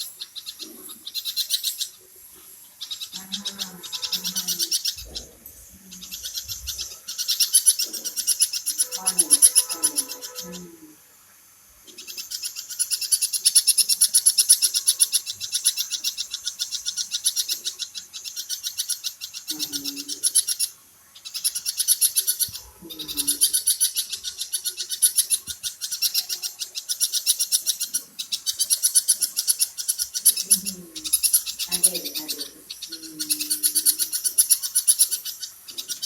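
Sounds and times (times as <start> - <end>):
birds chirping rapidly: 0.0 - 10.8, 11.8 - 36.0
faint lower bird calls: 0.0 - 11.1, 11.8 - 36.0.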